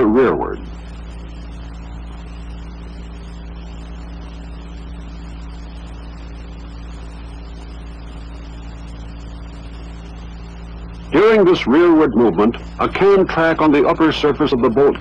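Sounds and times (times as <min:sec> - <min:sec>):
even hiss: 0:00.0 - 0:15.0
low electrical hum: 0:00.0 - 0:15.0.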